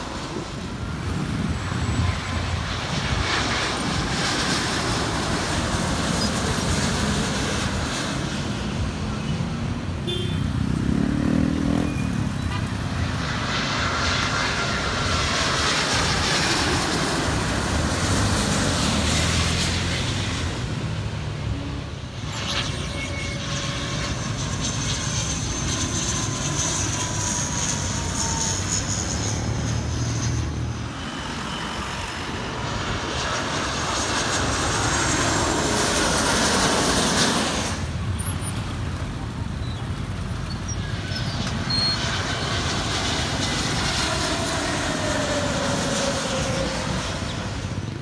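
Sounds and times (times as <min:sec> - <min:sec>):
jet airliner flying overhead: 0:00.0 - 0:48.0.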